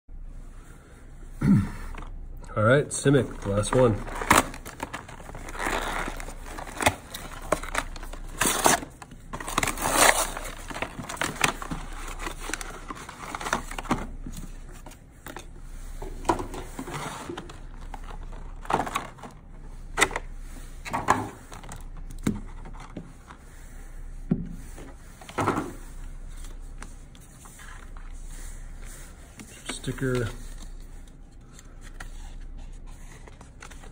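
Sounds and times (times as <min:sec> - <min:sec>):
packaging rustling and crinkling: 0:03.0 - 0:23.4, 0:24.8 - 0:33.9.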